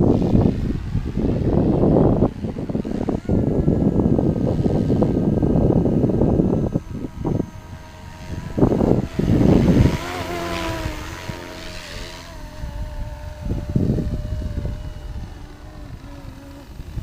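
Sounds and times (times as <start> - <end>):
model helicopter rotor whine: 0.0 - 17.0
wind buffeting microphone: 0.0 - 17.0.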